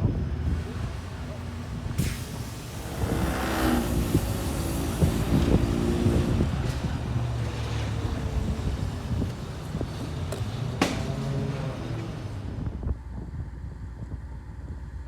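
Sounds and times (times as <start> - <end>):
wind noise on microphone: 0.0 - 10.6, 12.2 - 15.0
race car engines: 0.0 - 15.0.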